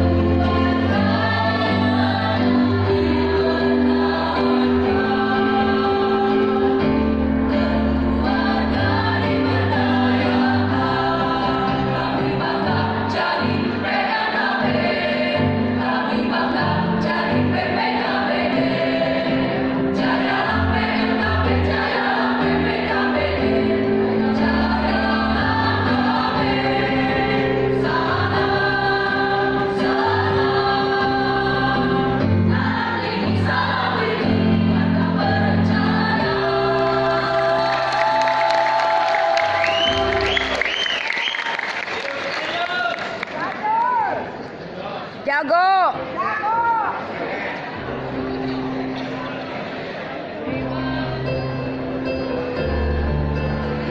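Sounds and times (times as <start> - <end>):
choir singing in harmony: 0.0 - 41.9, 47.1 - 53.9.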